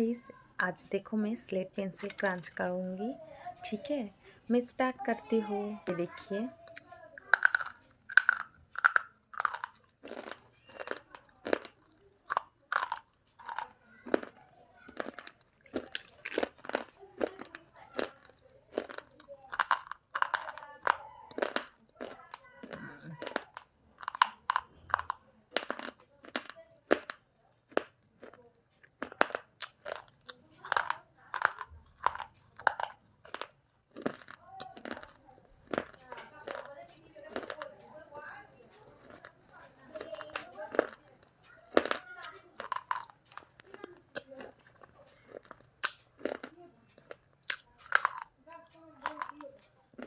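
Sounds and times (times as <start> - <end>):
dry crunches of chewing: 6.6 - 50.0.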